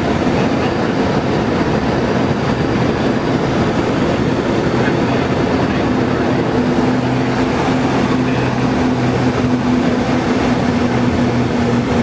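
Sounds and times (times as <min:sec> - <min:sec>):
aircraft engines droning: 0:00.0 - 0:12.0
low hums: 0:00.0 - 0:12.0
rushing air: 0:00.0 - 0:12.0.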